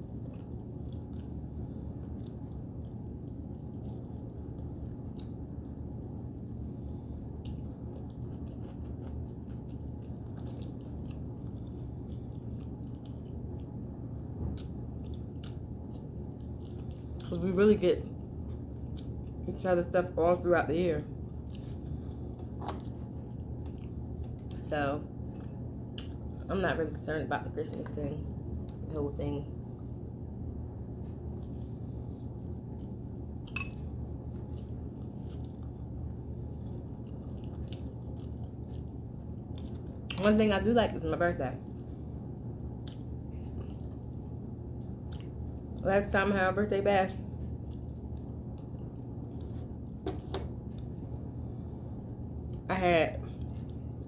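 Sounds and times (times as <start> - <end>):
chewing food: 0.0 - 6.0, 6.6 - 19.6, 21.1 - 26.5, 31.0 - 40.2, 41.8 - 45.8, 47.2 - 52.6, 53.2 - 54.0
low background hum: 0.0 - 54.0.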